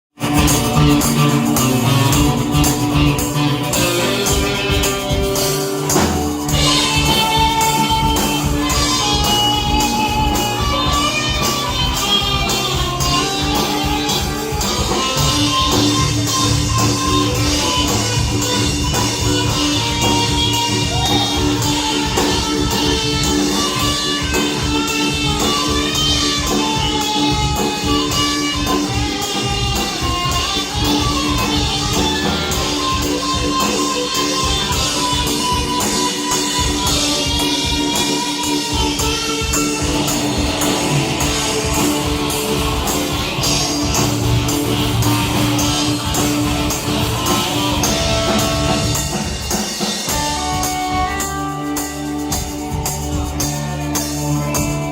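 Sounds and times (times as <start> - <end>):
guitar-like melody: 0.2 - 54.9
percussion beat: 0.2 - 54.9.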